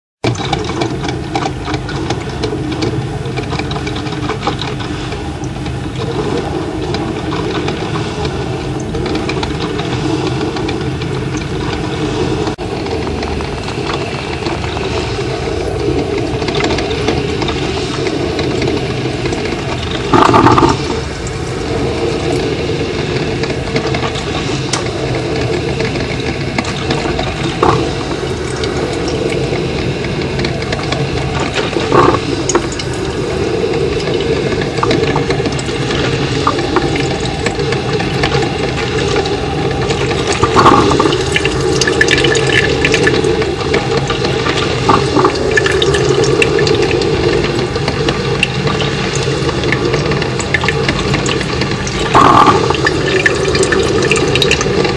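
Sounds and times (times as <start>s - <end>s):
coffeemaker rumbling hum: 0.2s - 54.9s
crackles and pops: 0.2s - 54.9s.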